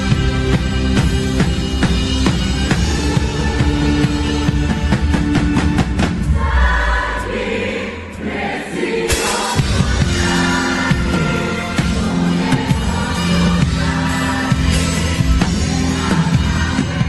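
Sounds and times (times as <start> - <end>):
band with drum kit: 0.0 - 17.0
choir singing gospel: 2.3 - 17.0.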